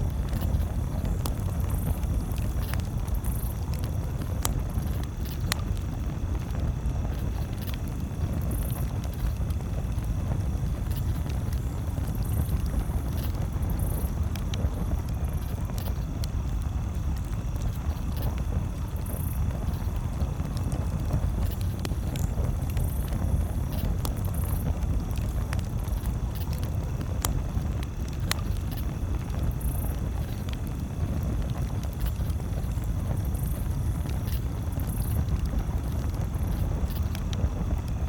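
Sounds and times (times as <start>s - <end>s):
campfire crackling and popping: 0.0s - 38.0s
steady low rumble: 0.0s - 38.0s.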